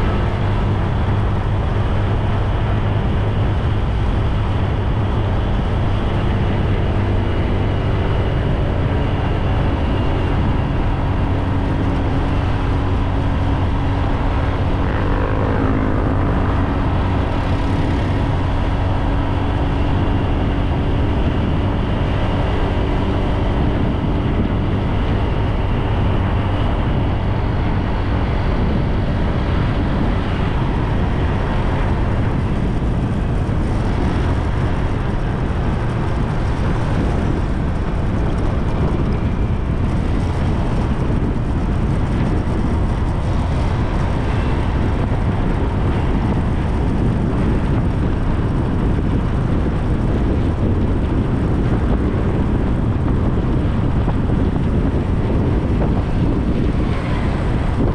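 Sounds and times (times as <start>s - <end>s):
bike road noise: 0.0s - 57.9s
faint engine hum: 0.0s - 57.9s
wind noise: 0.0s - 57.9s.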